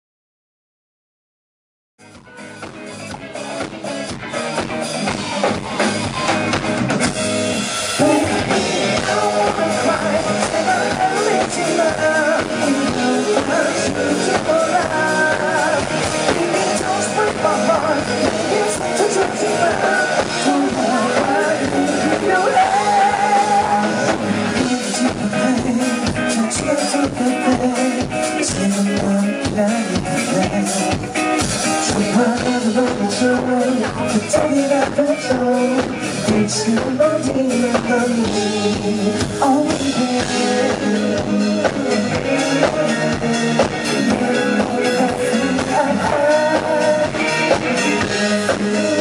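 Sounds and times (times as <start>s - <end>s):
live rock band playing: 2.0s - 49.0s
man singing: 7.9s - 49.0s.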